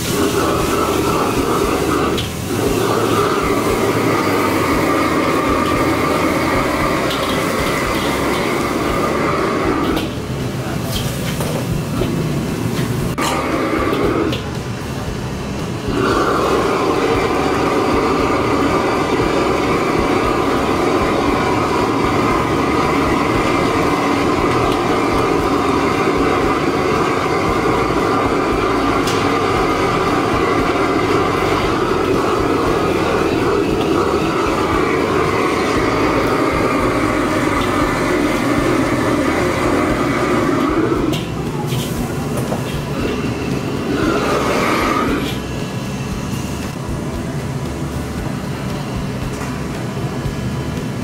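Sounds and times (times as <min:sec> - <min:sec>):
gas burner lighting: 0:00.0 - 0:51.0
gas burner roaring: 0:00.0 - 0:51.0.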